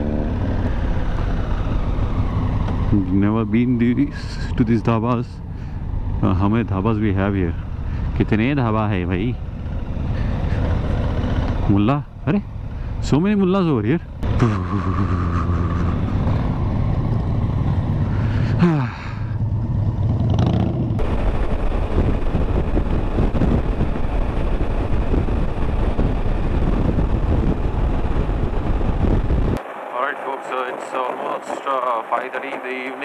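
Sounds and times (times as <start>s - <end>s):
motorcycle engine running: 0.0s - 29.2s
rushing wind and road noise: 0.0s - 33.0s.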